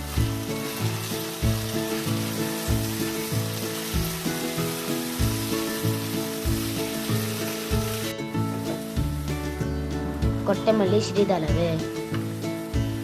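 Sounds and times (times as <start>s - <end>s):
background music with steady beat: 0.0s - 13.0s
masala sizzling in oil: 0.0s - 13.0s.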